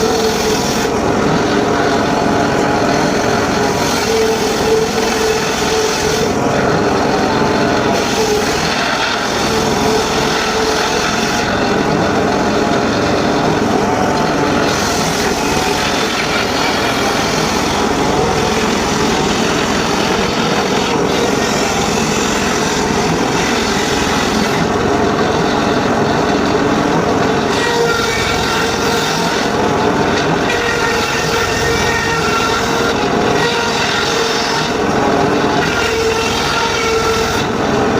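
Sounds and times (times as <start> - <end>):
circular saw cutting wood: 0.0 - 37.9.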